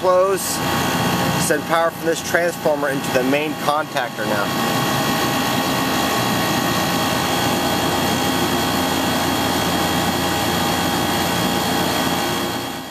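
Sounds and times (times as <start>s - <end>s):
heat pump fan and compressor rushing: 0.0s - 12.9s.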